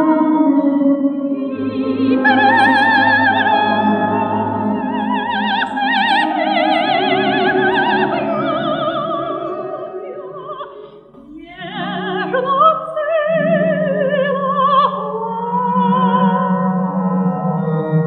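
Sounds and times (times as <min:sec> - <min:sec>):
soprano singing with vibrato: 0:00.0 - 0:17.0.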